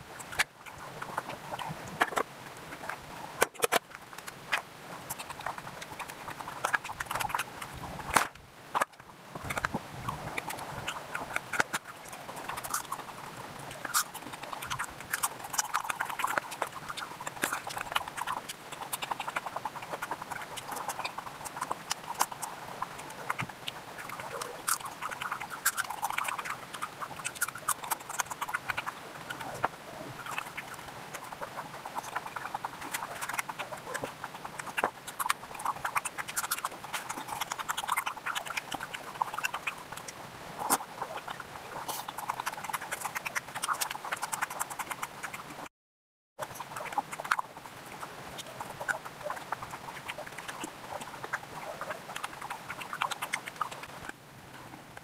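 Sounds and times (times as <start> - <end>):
wet chewing smacks and clicks: 0.2 - 45.7, 46.4 - 54.2.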